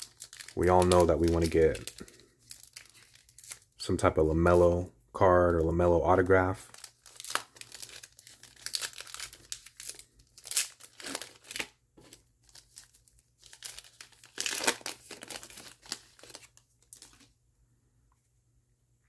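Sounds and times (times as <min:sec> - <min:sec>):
foil wrapper crinkling and tearing: 0:00.0 - 0:03.8, 0:05.4 - 0:17.3.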